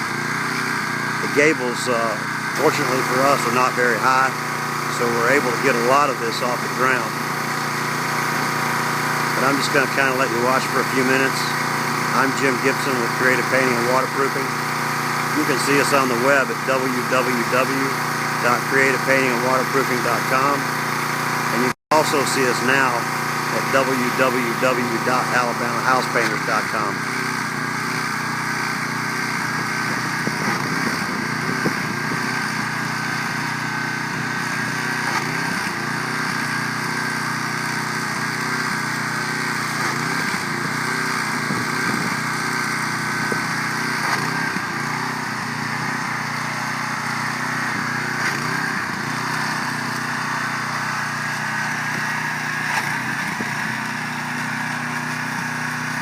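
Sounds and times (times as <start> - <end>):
pressure washer engine running: 0.0 - 56.0.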